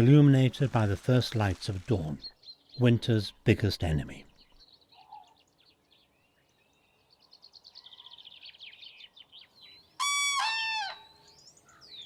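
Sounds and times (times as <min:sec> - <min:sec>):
small birds chirping: 0:01.1 - 0:10.0, 0:11.1 - 0:12.0.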